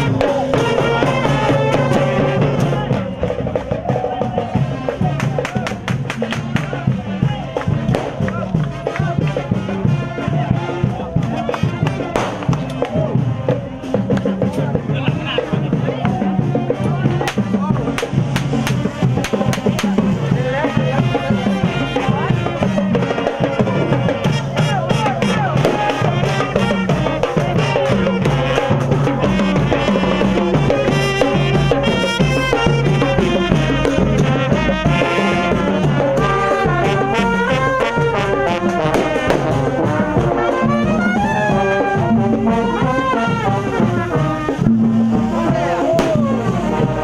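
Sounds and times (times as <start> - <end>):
marching band brass: 0.0 - 47.0
snare and bass drums: 0.0 - 47.0
trumpet melody: 0.0 - 47.0.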